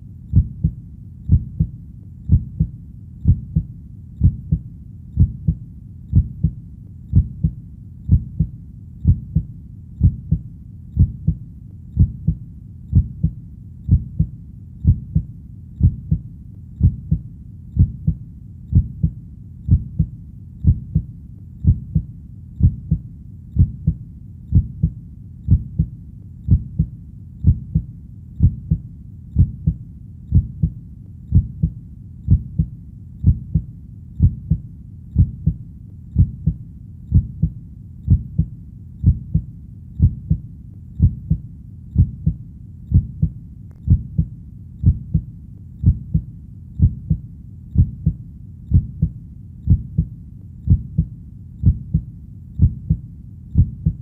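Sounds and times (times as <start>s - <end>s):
low steady rumble: 0.0s - 54.0s
heartbeat thumping: 0.3s - 11.4s, 12.0s - 40.4s, 41.0s - 54.0s.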